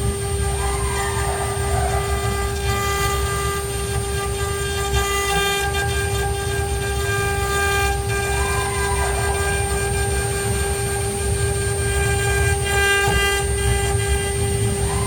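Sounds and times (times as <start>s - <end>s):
cnc router whining: 0.0s - 15.0s.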